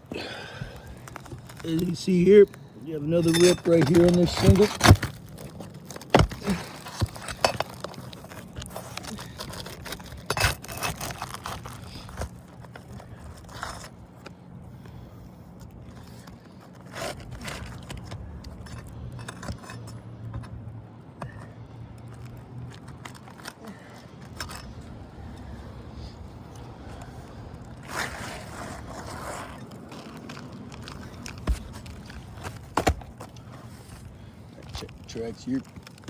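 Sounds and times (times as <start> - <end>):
flat bar scraping roof shingles: 0.2 - 14.5, 15.8 - 36.0.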